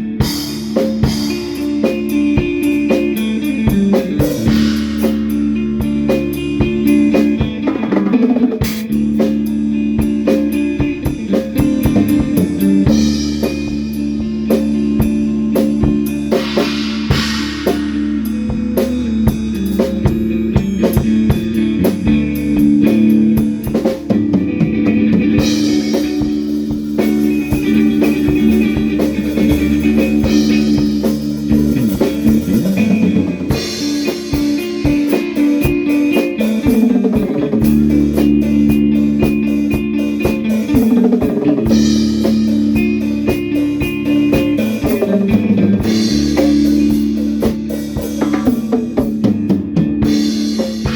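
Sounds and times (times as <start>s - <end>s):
drum kit beat with rimshots: 0.0s - 50.9s
guitar sustained chords: 0.0s - 50.9s.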